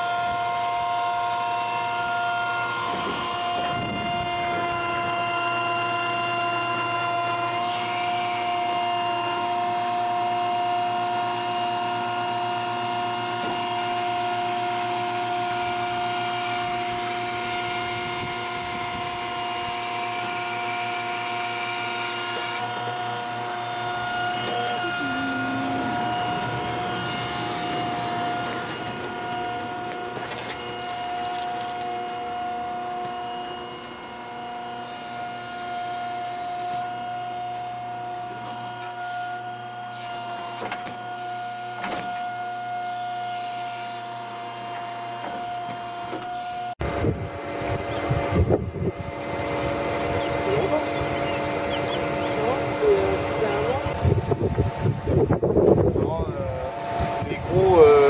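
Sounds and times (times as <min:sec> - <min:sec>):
crane motor whine: 0:00.0 - 0:58.0.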